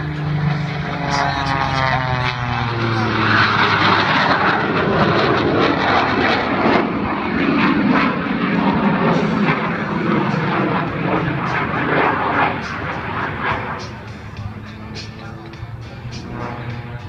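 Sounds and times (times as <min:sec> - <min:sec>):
plane engines roaring: 0:00.0 - 0:17.0.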